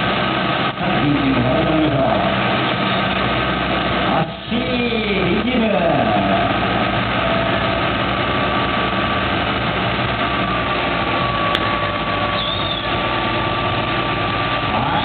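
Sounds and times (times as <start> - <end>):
diesel engine running: 0.0 - 15.0
high whine: 0.0 - 15.0.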